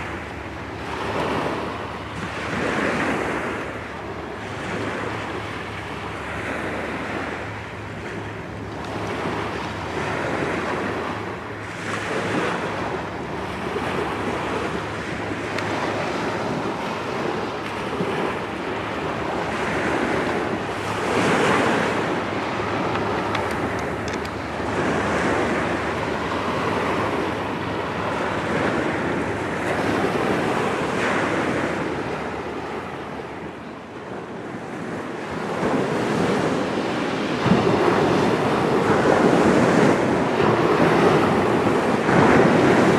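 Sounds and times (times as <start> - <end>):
steady low hum: 0.0 - 34.9
small waves washing on shore: 0.0 - 42.9
wind buffeting microphone: 0.0 - 42.9.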